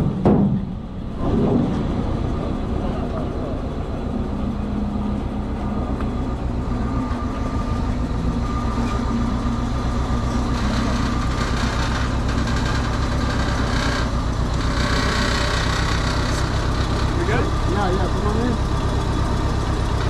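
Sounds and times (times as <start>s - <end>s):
heavy machinery engine humming: 0.0s - 20.0s.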